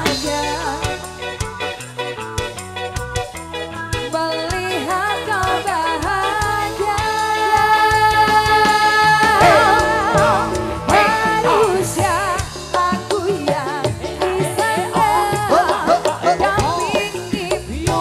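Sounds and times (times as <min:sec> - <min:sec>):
woman singing with vibrato: 0:00.0 - 0:01.2, 0:04.2 - 0:18.0
band with drums and guitar: 0:00.0 - 0:18.0.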